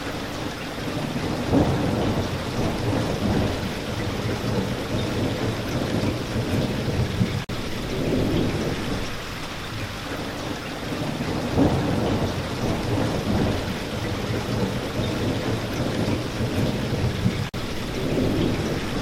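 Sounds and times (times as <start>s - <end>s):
steady rain: 0.0s - 19.0s
rolling thunder: 0.8s - 9.2s, 10.2s - 19.0s.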